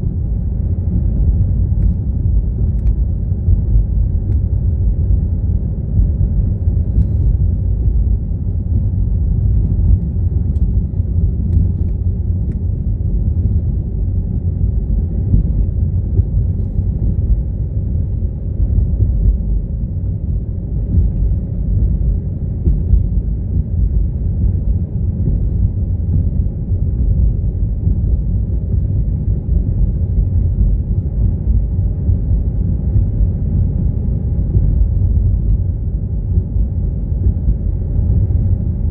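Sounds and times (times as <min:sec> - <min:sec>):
car engine and road noise: 0:00.2 - 0:38.9.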